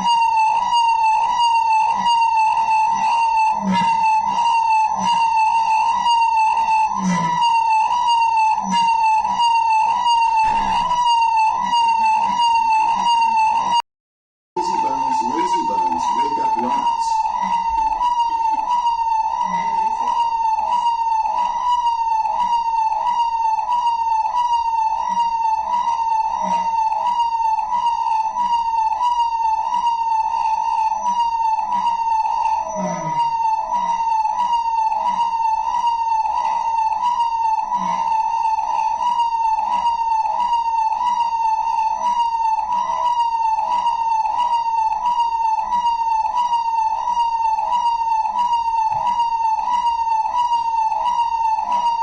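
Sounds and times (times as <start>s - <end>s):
electronic siren yelping wail: 0.0s - 13.8s, 14.6s - 52.0s.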